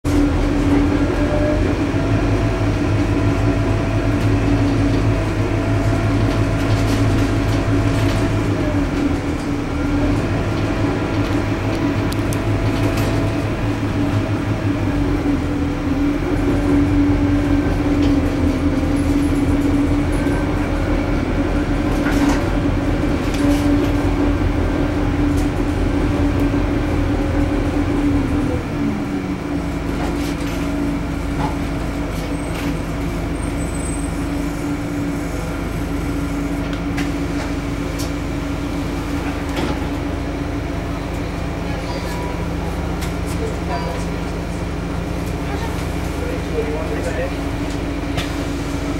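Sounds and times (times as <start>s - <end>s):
bus diesel engine droning: 0.1s - 48.9s.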